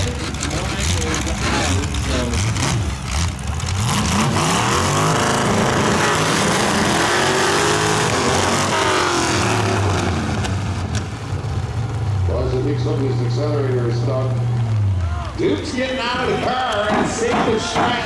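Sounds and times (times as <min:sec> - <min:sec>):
car engine revving: 0:00.0 - 0:18.0
low engine tones: 0:00.0 - 0:18.0.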